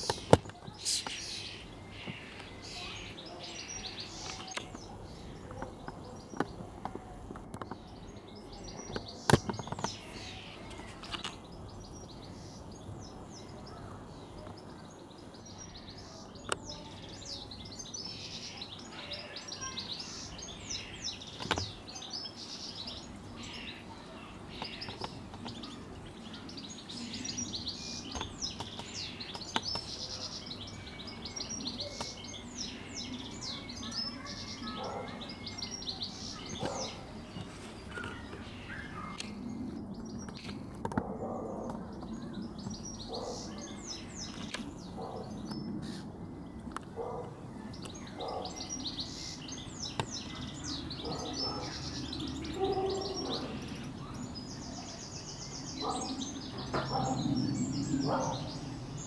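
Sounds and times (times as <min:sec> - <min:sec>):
outdoor background noise: 0:00.0 - 0:59.0
small birds chirping: 0:00.0 - 0:59.0.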